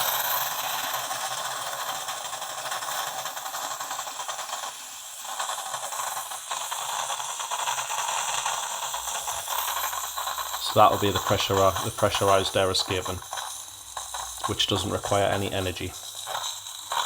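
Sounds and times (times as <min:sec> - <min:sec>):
coffee machine hissing and rattling: 0:00.0 - 0:17.0.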